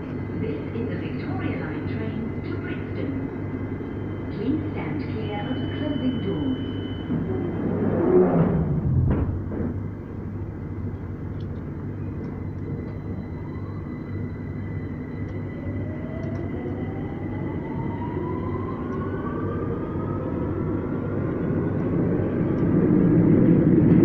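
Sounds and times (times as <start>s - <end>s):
high hum: 0.0s - 24.0s
steady rumble: 0.0s - 24.0s.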